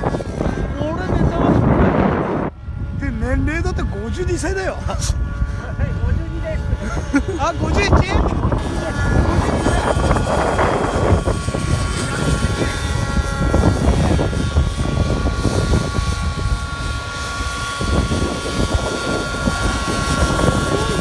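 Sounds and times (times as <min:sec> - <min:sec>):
model aircraft motor whining: 0:00.0 - 0:21.0
wind buffeting microphone: 0:00.0 - 0:21.0.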